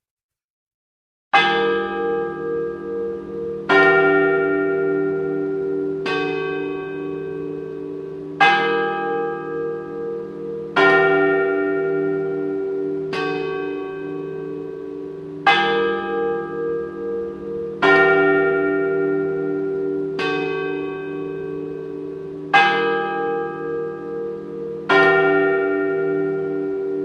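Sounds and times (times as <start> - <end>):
large bell tolling: 1.4 - 27.0.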